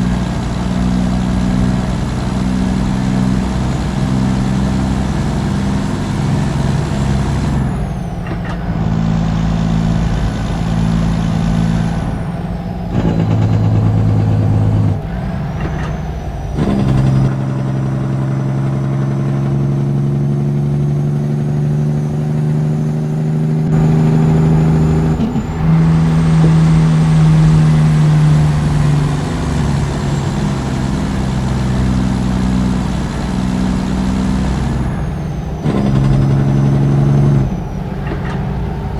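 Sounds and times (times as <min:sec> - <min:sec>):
truck engine exhaust: 0:00.0 - 0:38.9.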